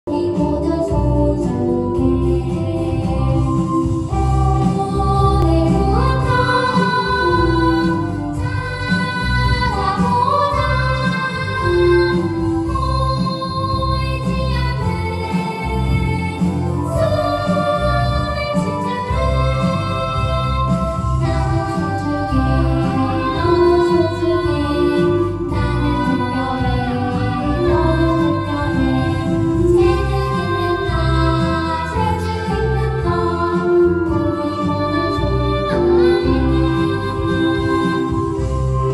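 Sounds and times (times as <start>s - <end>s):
instrumental accompaniment: 0.1s - 38.9s
children singing together: 0.2s - 38.9s.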